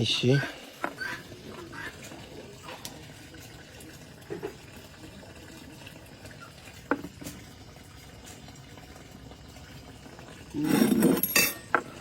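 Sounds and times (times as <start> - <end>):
campfire embers hissing: 0.0 - 12.0.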